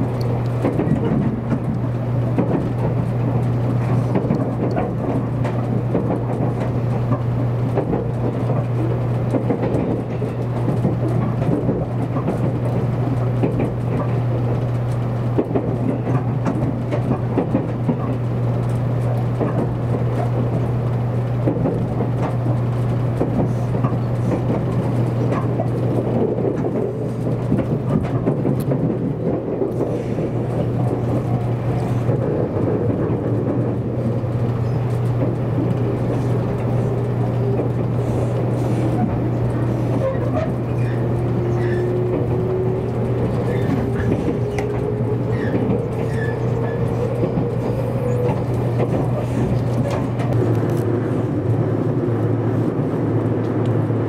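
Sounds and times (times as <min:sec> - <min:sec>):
train cabin low hum: 0:00.0 - 0:54.0
wheels rumbling on track: 0:00.0 - 0:54.0.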